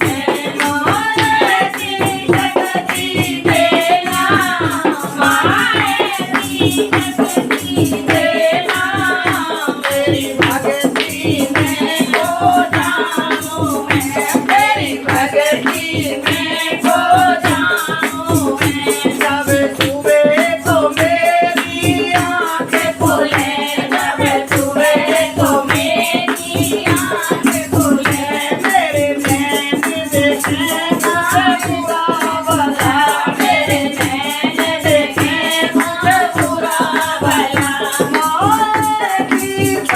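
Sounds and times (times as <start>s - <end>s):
fast percussion beat: 0.0s - 39.9s
woman singing: 0.0s - 39.9s.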